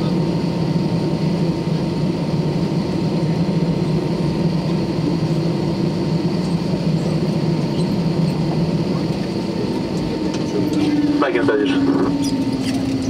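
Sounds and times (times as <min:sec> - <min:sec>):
low aircraft cabin hum: 0:00.0 - 0:13.0.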